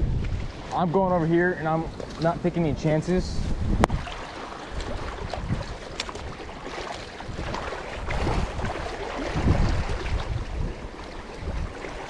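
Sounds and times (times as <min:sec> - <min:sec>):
wind gusting on microphone: 0:00.0 - 0:12.0.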